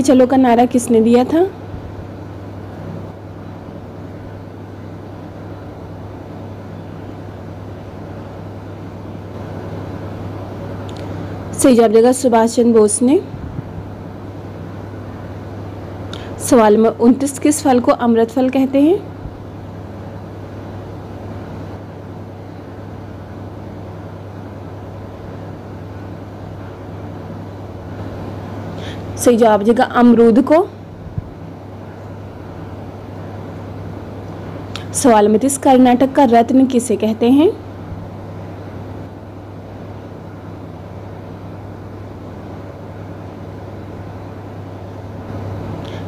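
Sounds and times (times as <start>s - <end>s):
low even hum: 0.0s - 46.0s.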